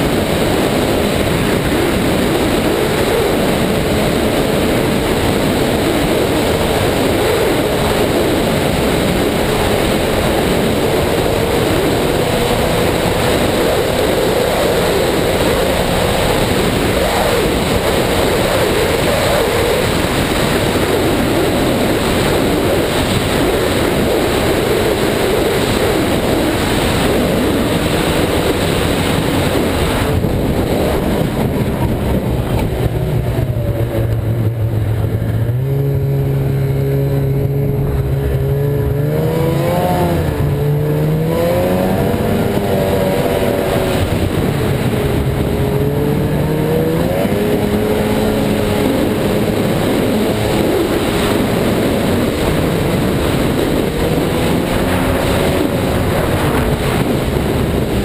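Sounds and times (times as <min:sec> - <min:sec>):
snowmobile engine running: 0:00.0 - 0:58.0
wind noise: 0:00.0 - 0:58.0.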